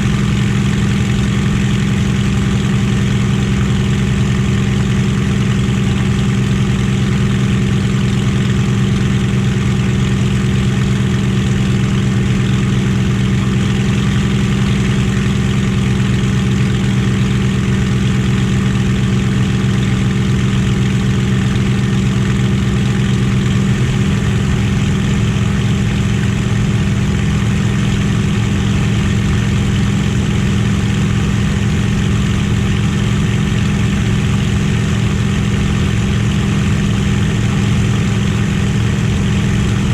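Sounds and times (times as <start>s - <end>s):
aircraft piston engine droning: 0.0s - 39.9s.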